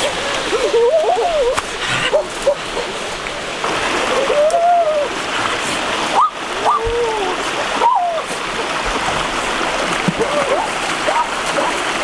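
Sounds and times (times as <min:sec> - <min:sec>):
stream rushing: 0:00.0 - 0:12.0
water splashing from wading: 0:00.0 - 0:12.0.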